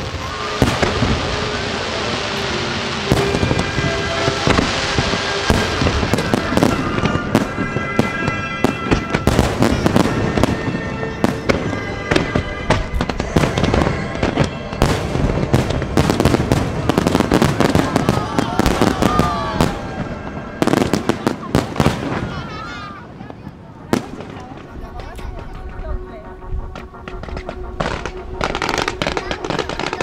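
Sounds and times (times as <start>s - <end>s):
music playing: 0.0s - 22.4s, 23.9s - 30.0s
fireworks bursting and crackling: 0.0s - 30.0s.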